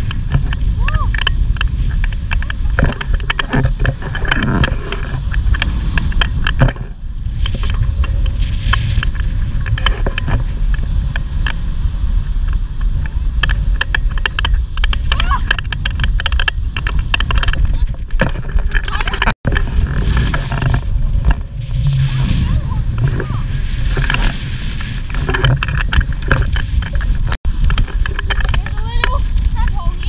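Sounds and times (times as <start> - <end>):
surf rumble on microphone: 0.0 - 30.0.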